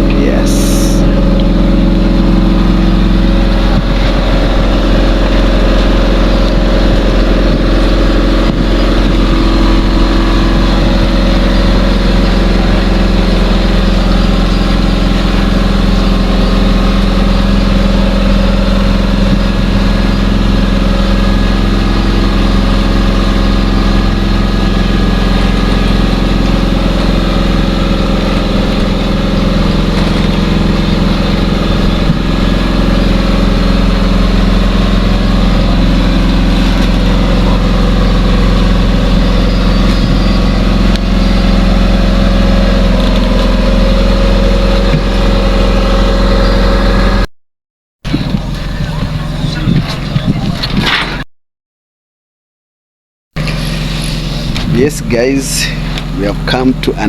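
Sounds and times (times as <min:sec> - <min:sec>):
engine humming steadily: 0:00.0 - 0:47.3, 0:48.0 - 0:51.2, 0:53.4 - 0:57.0.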